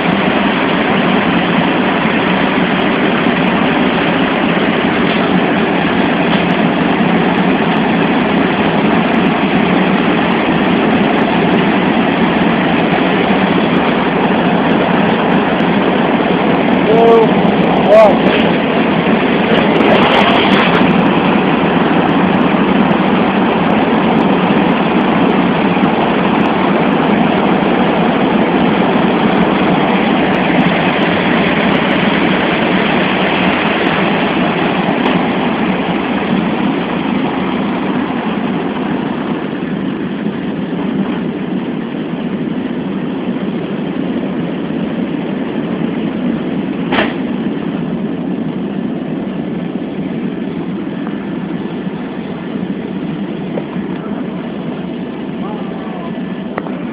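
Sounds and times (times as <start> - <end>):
aircraft engines roaring: 0.0 - 56.9
rushing air: 0.0 - 56.9.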